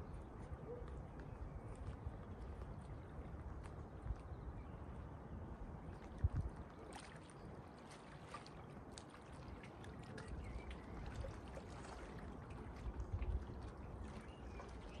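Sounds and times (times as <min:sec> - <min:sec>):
wind rumble on microphone: 0:00.0 - 0:07.6, 0:09.8 - 0:15.0
water lapping: 0:00.0 - 0:15.0.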